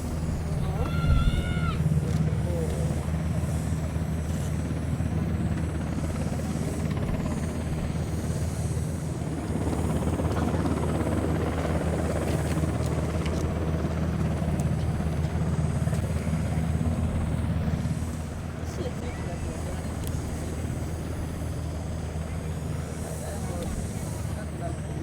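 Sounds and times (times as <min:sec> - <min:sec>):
helicopter rotor and turbine drone: 0:00.0 - 0:25.0.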